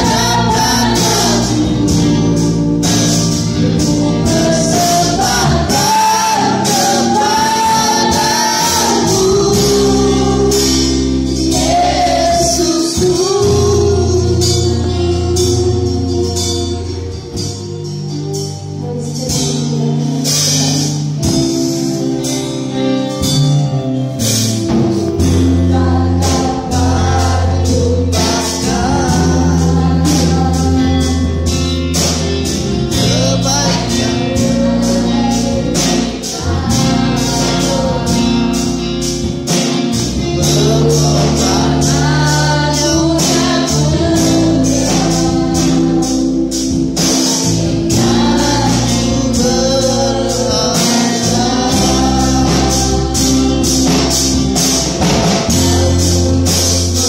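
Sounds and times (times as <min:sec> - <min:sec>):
people singing: 0:00.0 - 0:22.3, 0:24.2 - 0:57.0
band playing gospel song: 0:00.0 - 0:57.0.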